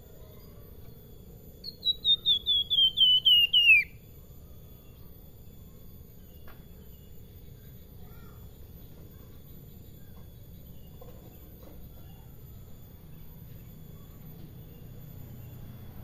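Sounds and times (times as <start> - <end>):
faint bird chirps: 0.0 - 16.0
low outdoor background noise: 0.0 - 16.0.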